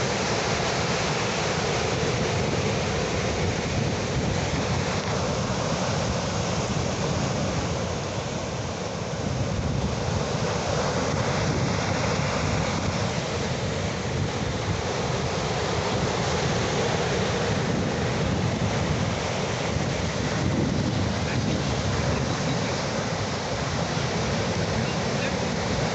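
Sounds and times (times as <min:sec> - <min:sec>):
ocean waves on shore: 0:00.0 - 0:25.9
wind on microphone: 0:00.0 - 0:25.9.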